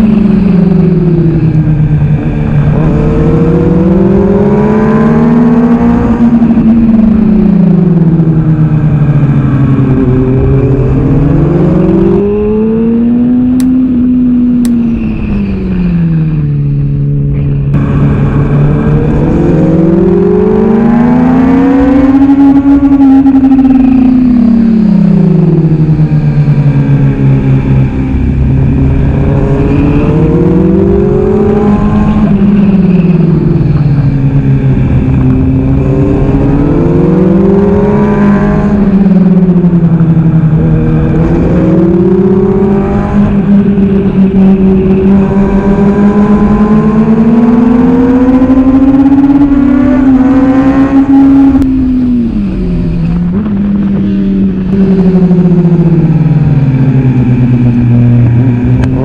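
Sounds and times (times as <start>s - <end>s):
motorcycle engine at racing speed: 0.0s - 59.0s.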